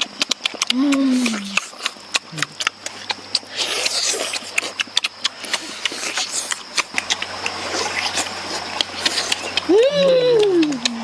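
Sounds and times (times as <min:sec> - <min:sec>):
chewing and lip-smacking: 0:00.0 - 0:11.0.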